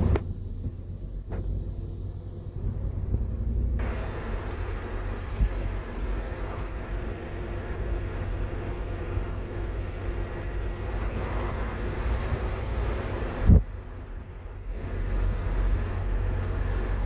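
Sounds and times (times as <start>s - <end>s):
bus diesel engine rumbling: 0.0s - 17.0s
road noise: 0.0s - 17.0s
steady hum: 0.0s - 17.0s.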